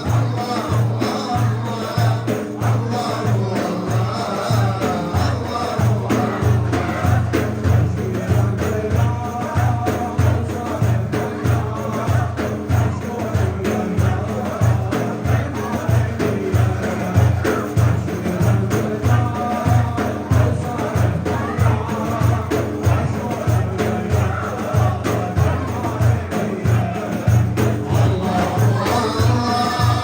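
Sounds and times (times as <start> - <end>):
frame drum beat: 0.0 - 30.0
person singing hymn: 0.0 - 30.0.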